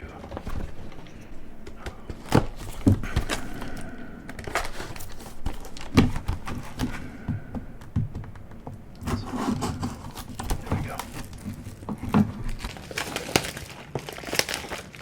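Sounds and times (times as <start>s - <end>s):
cardboard rubbing and scraping: 0.2s - 14.5s
cardboard box knocks and thumps: 0.3s - 13.5s.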